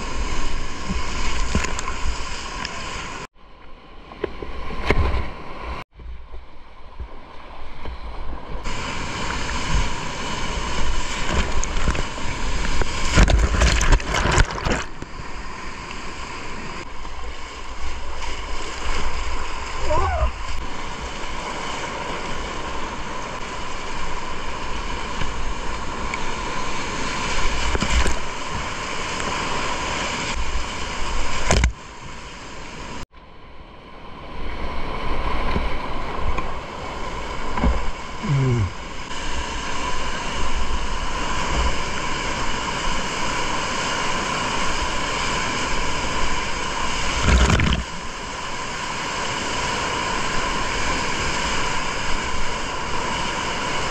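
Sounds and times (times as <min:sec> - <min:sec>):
waves splashing over kayak bow: 0:00.0 - 0:03.3, 0:04.1 - 0:33.0, 0:34.0 - 0:53.9
rushing whitewater: 0:07.5 - 0:33.0, 0:34.4 - 0:53.9.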